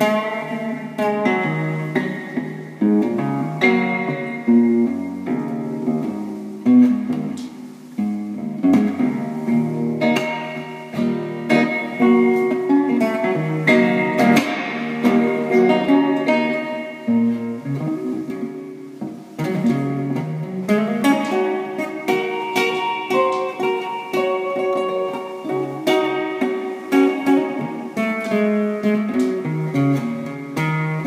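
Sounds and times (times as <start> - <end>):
classical guitar fingerpicked: 0.0 - 31.0.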